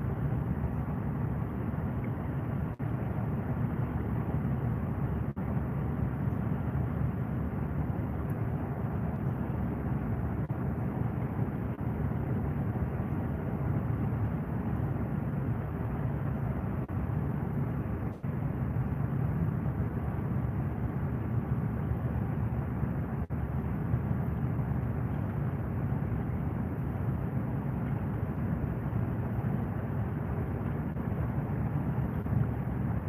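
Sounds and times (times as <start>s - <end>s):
low rumbling noise: 0.0s - 33.0s.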